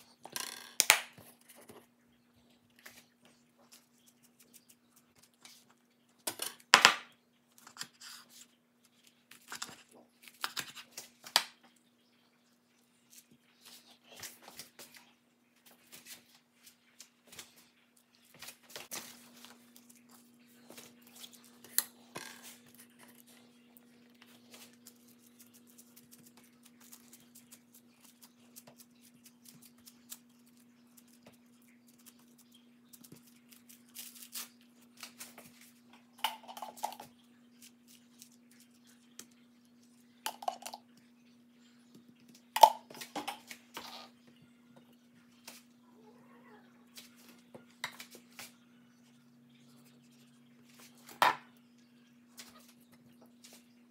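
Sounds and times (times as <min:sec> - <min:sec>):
faint low hum: 0:00.0 - 0:53.9.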